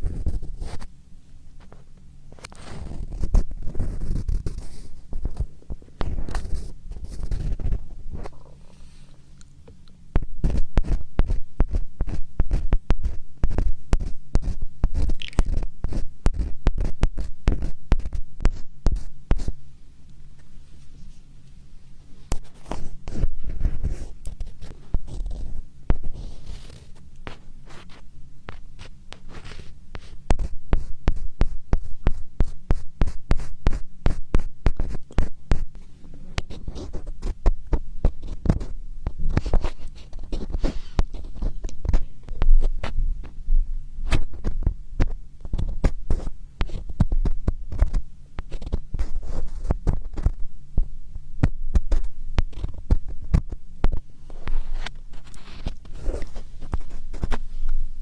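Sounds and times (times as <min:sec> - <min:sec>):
crackly scratching on microphone: 0:00.0 - 0:00.9, 0:01.5 - 0:09.3, 0:10.2 - 0:19.6, 0:22.2 - 0:43.4, 0:44.0 - 0:57.9.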